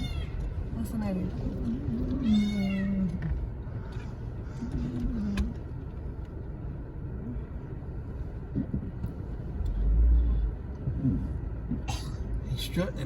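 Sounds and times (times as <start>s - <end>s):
low rumble of vehicle engine: 0.0s - 13.0s.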